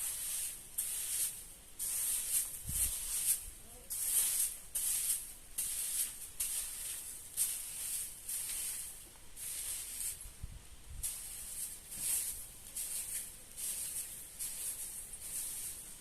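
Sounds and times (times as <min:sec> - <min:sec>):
broom sweeping: 0:00.0 - 0:16.0.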